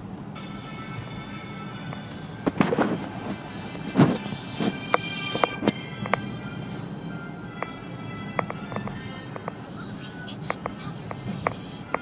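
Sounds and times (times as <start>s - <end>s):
music: 0.4s - 12.0s.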